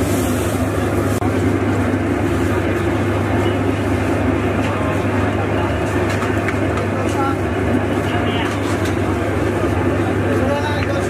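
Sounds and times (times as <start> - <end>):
busy street din: 0.0 - 11.0.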